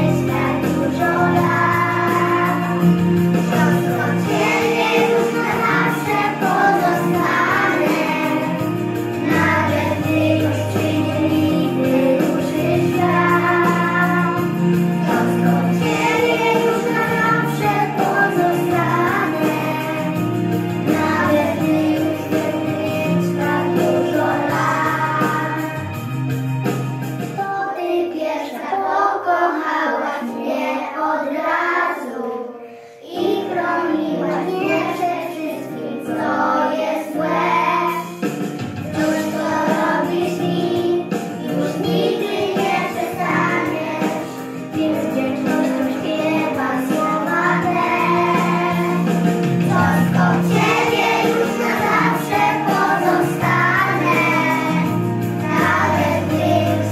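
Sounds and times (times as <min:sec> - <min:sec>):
children singing together: 0:00.0 - 0:26.1, 0:27.4 - 0:56.9
instrumental backing music: 0:00.0 - 0:56.9.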